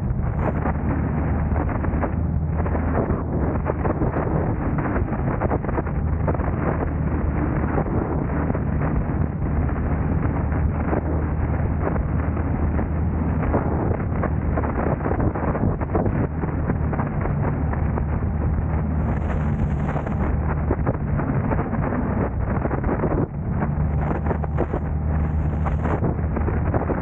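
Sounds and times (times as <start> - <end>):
car engine and road noise: 0.0 - 27.0
wind buffeting microphone: 0.0 - 27.0.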